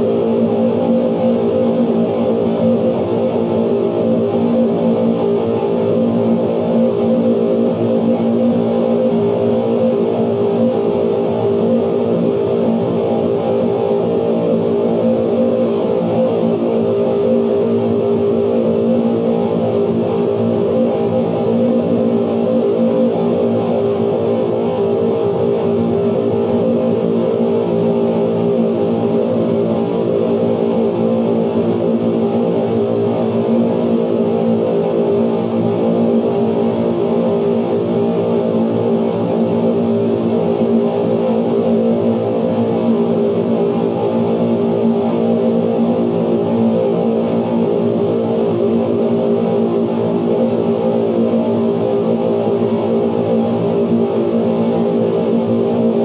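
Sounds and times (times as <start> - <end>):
steady layered tones: 0.0 - 56.0.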